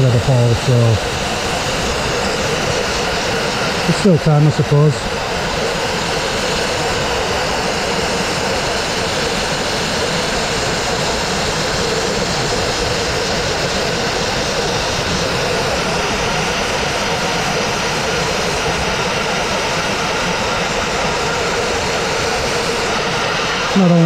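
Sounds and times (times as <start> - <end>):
abrasive blasting hissing roar: 0.0 - 24.0.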